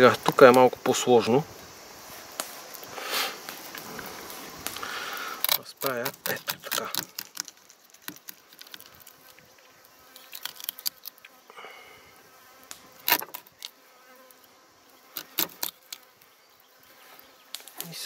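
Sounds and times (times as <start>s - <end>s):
insect buzzing: 0.0s - 18.0s.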